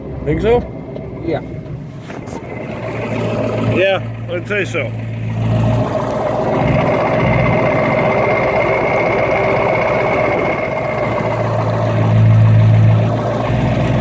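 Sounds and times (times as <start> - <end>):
driving through flood water: 0.0 - 14.0
pickup engine running: 0.0 - 14.0.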